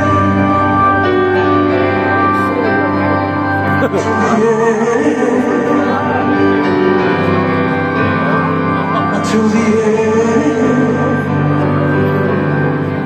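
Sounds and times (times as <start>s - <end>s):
keyboard chords: 0.0s - 13.0s
person singing or speaking: 1.5s - 12.7s.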